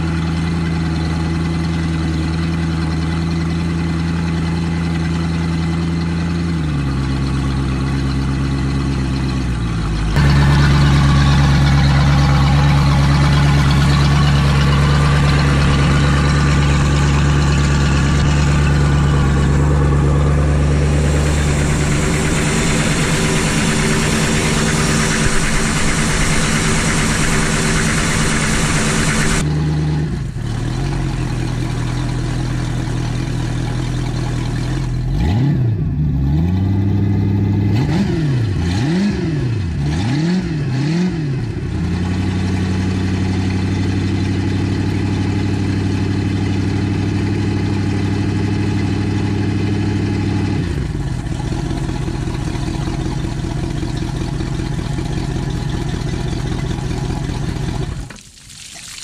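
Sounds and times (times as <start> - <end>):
boat engine idling: 0.0 - 29.5, 30.2 - 35.2, 41.7 - 58.1.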